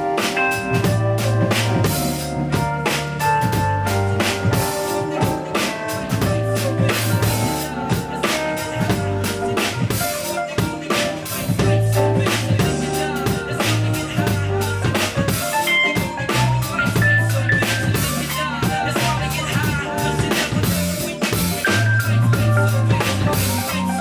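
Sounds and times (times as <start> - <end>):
bass lines: 0.0 - 24.0
drum kit beat: 0.0 - 24.0
keyboard chords: 0.0 - 24.0.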